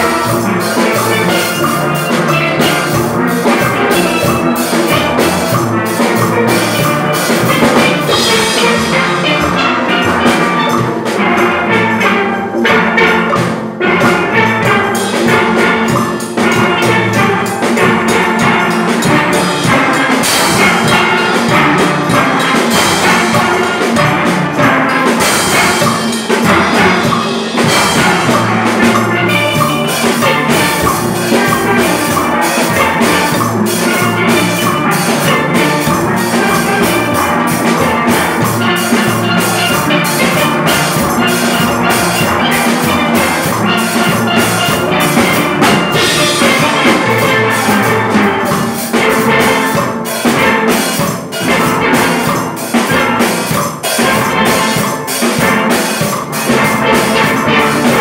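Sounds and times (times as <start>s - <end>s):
drum kit beat: 0.0s - 58.0s
steel pans playing: 0.0s - 58.0s.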